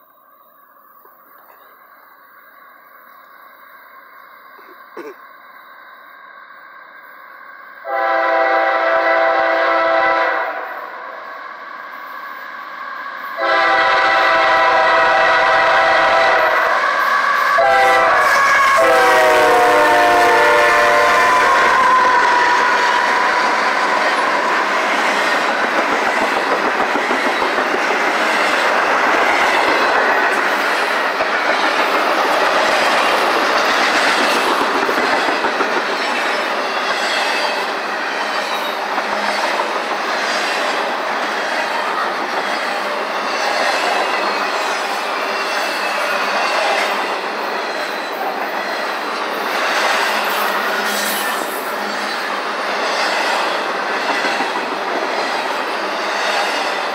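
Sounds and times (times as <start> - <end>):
train wheels rumbling on track: 7.8 - 56.9.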